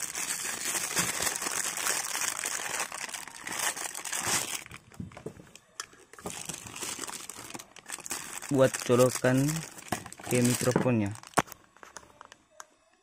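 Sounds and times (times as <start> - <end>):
plastic bag crinkling: 0.0 - 5.2, 6.1 - 11.9.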